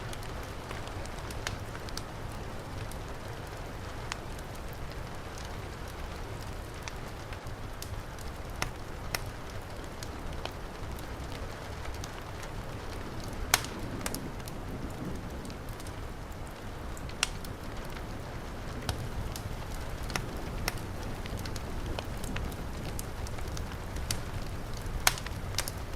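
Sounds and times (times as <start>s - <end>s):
wood fire crackling and popping: 0.0s - 25.9s.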